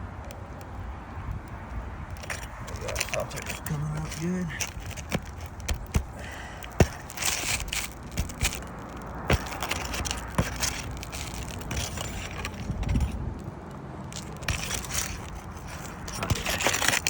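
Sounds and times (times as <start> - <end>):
roof shingle crackling and scraping: 0.0 - 17.0.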